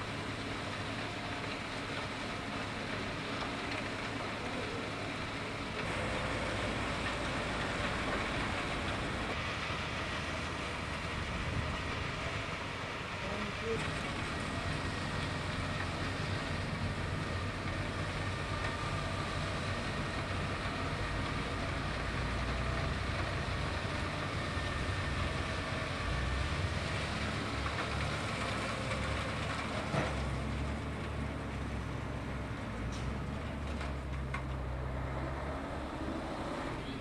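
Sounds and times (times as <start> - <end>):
snowplow engine and blower: 0.0 - 37.0
truck engine running: 0.0 - 37.0.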